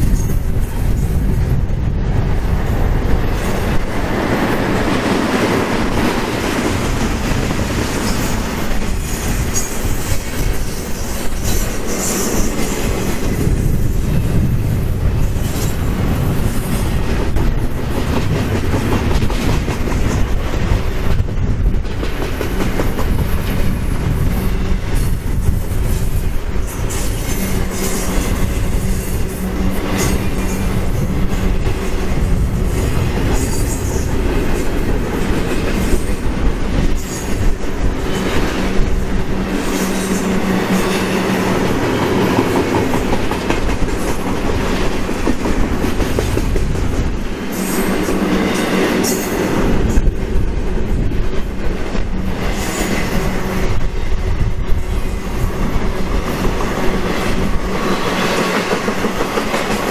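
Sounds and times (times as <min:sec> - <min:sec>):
freight train wheels clicking on rails: 0:00.0 - 0:59.9.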